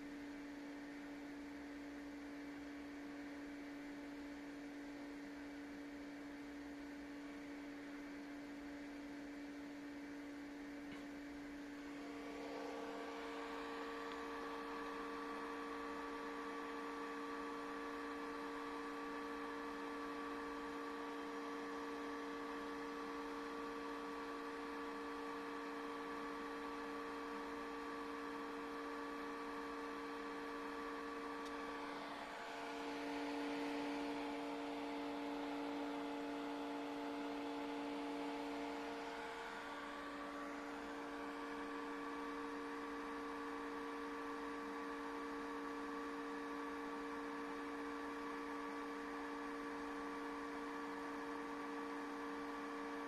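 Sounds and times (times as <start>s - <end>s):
electrical equipment hum: 0.0s - 53.0s.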